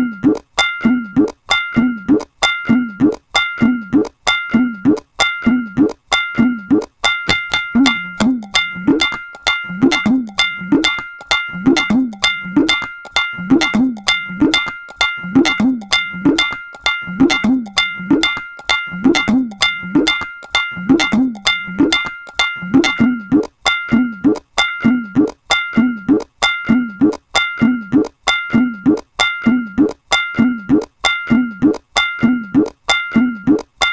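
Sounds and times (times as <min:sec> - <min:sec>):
tabla rhythm: 0:00.0 - 0:33.9.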